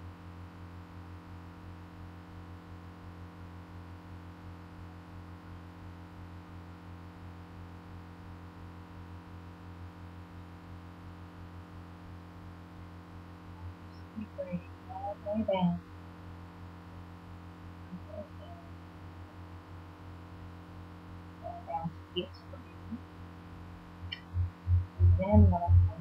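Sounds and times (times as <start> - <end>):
low electrical hum with hiss: 0.0 - 26.0.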